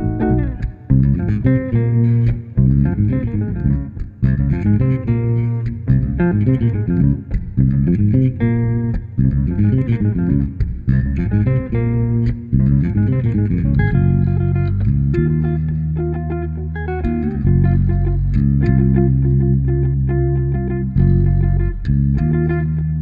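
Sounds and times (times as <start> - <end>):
electric bass line: 0.0 - 23.0
electric guitar plucked notes: 0.0 - 23.0.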